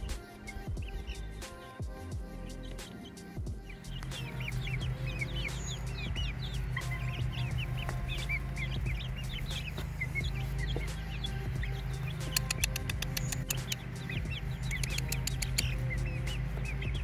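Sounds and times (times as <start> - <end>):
background music: 0.0 - 17.0
chicks peeping: 0.0 - 17.0.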